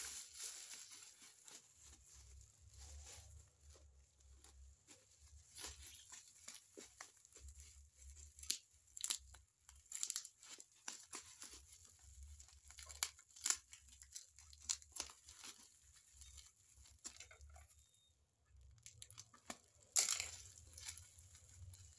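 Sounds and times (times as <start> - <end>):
plastic crinkling: 0.0 - 21.9.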